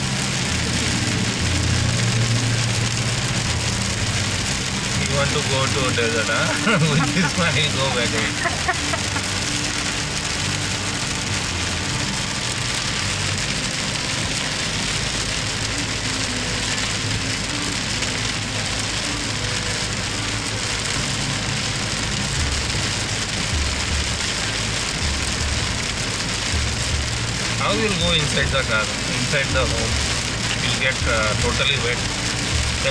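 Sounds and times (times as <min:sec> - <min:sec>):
car on wet road: 0:00.0 - 0:32.9
heavy rain on car: 0:00.0 - 0:32.9.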